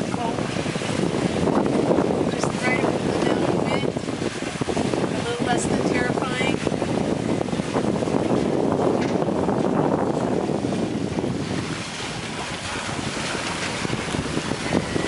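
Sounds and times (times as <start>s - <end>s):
water washing along hull: 0.0s - 15.0s
wind buffeting microphone: 0.0s - 15.0s.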